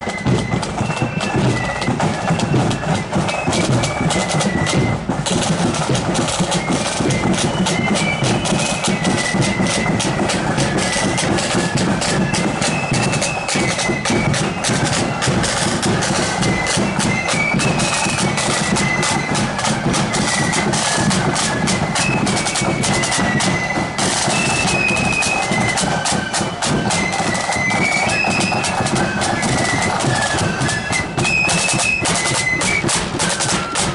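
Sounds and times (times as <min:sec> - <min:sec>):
flutes playing shrill melody: 0:00.0 - 0:33.9
snare and bass drums beat: 0:00.0 - 0:33.9.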